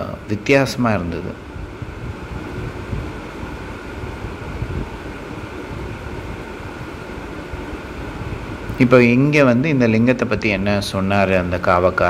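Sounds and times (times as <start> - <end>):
low rumble: 0.9 - 12.0.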